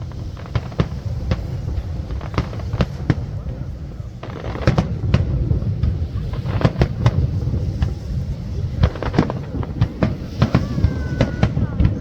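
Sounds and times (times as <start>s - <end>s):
fireworks sharp bangs: 0.0s - 12.0s
low rumble of booms: 0.0s - 12.0s.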